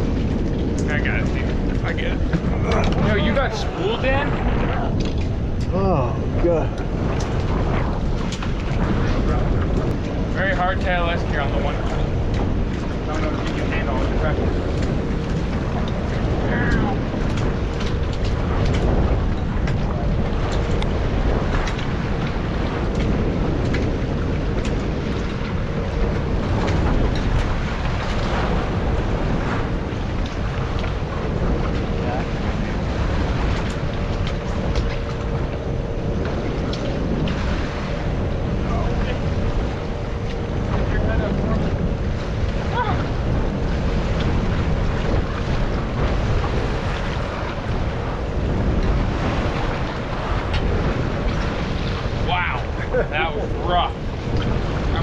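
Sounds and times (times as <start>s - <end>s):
waves washing around boat: 0.0s - 55.0s
wind buffeting microphone: 0.0s - 55.0s.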